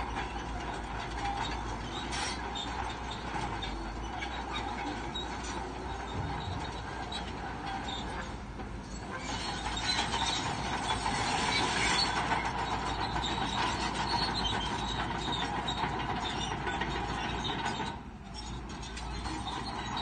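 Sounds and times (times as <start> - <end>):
bulldozer engine running: 0.0 - 20.0
steel tracks clanking: 0.0 - 20.0.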